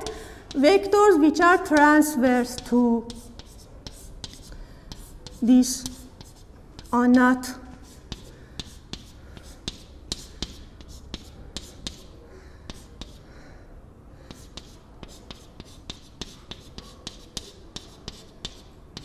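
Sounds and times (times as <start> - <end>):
chalk tapping on chalkboard: 1.6 - 13.3, 14.2 - 19.0.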